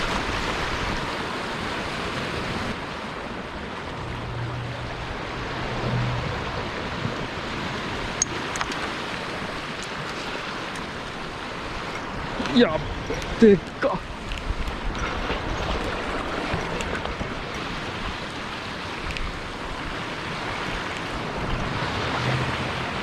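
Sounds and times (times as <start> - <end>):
sea surf on rocky shore: 0.0 - 23.0.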